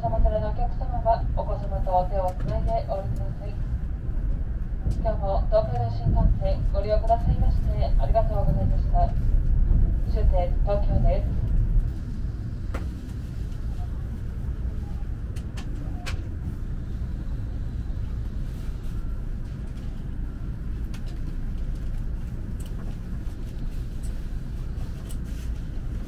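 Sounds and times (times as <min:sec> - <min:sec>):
train cabin rumble: 0:00.0 - 0:26.0.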